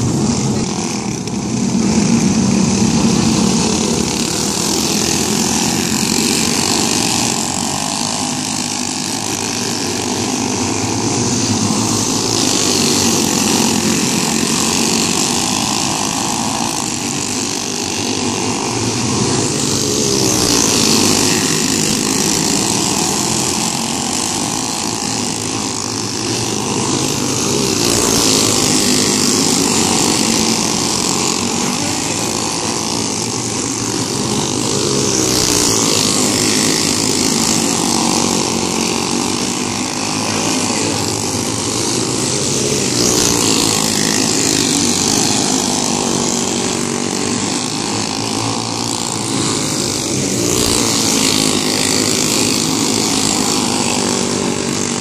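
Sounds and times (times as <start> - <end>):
go-kart engines buzzing: 0.0 - 55.0.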